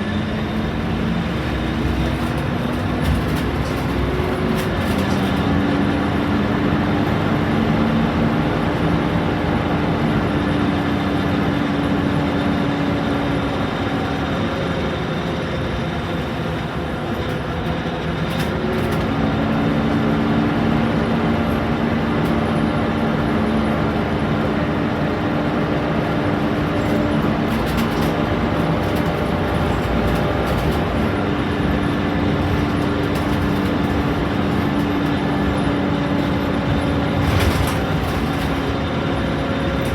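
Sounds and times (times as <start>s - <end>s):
bus engine hum with whine: 0.0s - 39.9s.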